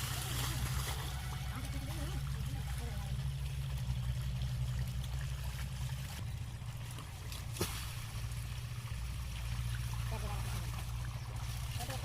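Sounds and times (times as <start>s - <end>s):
diesel engine pump throbbing: 0.0s - 12.0s
water flowing: 0.0s - 12.0s.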